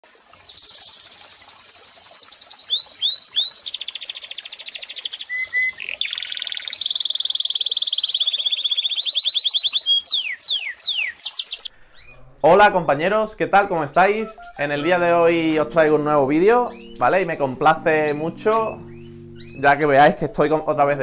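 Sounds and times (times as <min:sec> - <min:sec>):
canary singing trills: 0:00.4 - 0:21.0.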